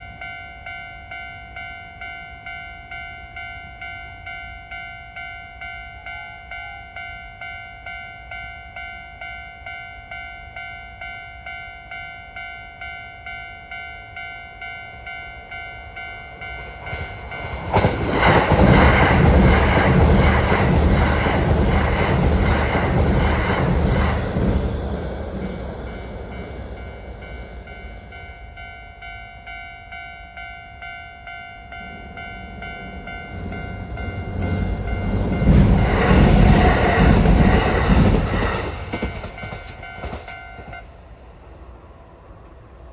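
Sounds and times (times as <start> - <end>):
train rumble and rail noise: 0.0 - 42.9.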